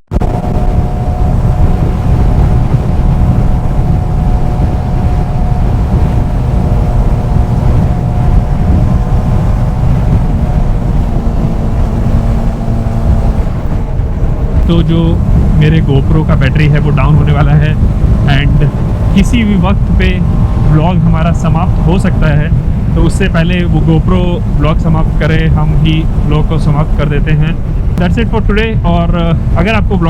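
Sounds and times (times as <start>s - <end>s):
motorcycle engine cruising: 0.1s - 30.0s
wind rush on microphone: 0.1s - 30.0s.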